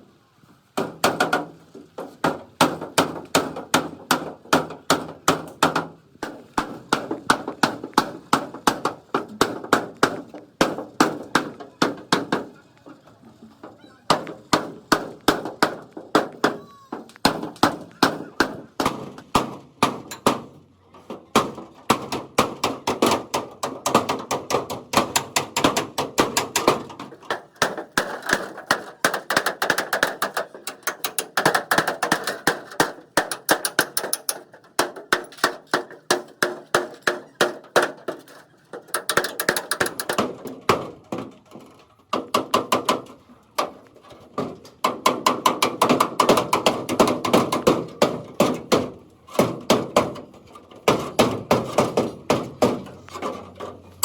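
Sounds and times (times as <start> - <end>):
hammer beating sheet steel: 2.2 - 12.5, 14.1 - 20.6, 21.3 - 41.3, 42.2 - 43.8, 44.4 - 53.4.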